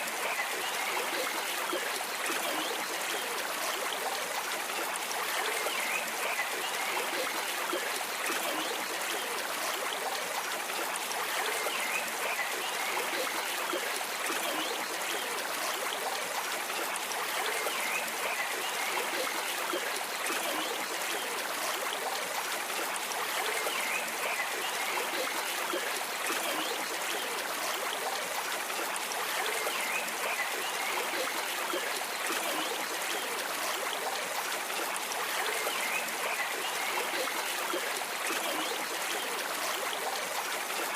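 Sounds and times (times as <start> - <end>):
stream flowing and trickling: 0.0 - 40.9.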